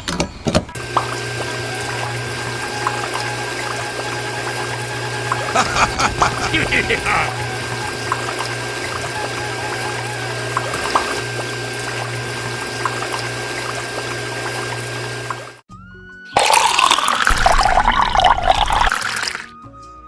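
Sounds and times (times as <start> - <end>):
water pouring and splashing: 0.8 - 6.3, 7.4 - 15.6, 16.4 - 19.5.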